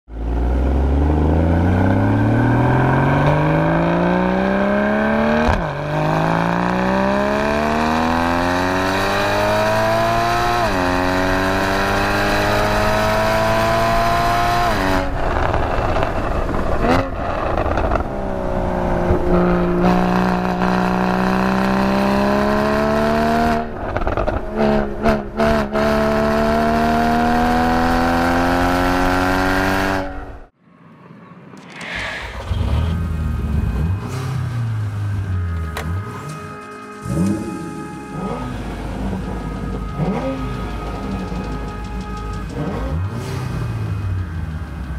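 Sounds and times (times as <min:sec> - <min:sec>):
sports car engine accelerating: 0:00.1 - 0:30.5, 0:31.9 - 0:44.9.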